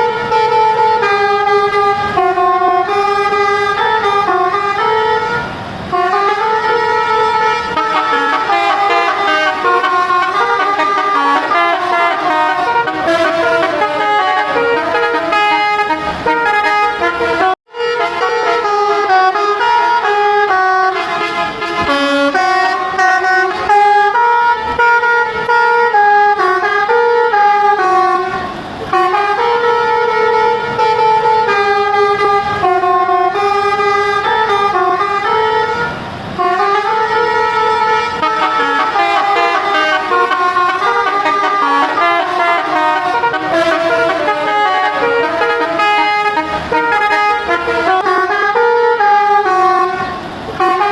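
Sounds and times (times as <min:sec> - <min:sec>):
multi-tone air horns melodies: 0:00.0 - 0:50.9.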